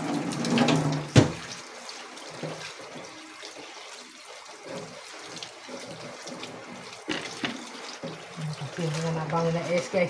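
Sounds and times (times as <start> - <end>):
tap water splashing: 0.0 - 10.0.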